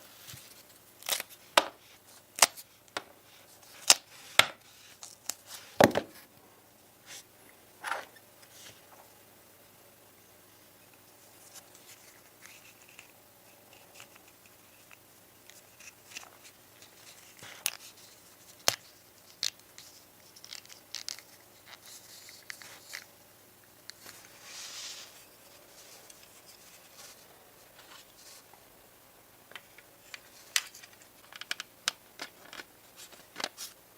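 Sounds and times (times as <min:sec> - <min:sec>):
rustling hiss: 0:00.0 - 0:31.2.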